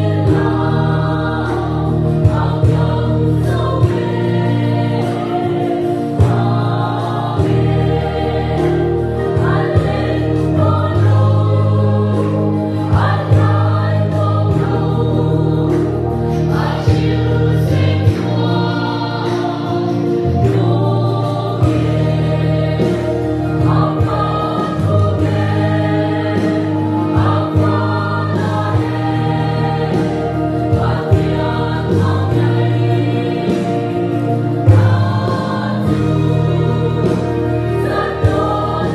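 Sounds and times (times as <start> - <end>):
choir singing a hymn: 0.0 - 38.9
sustained low accompaniment notes: 0.0 - 38.9.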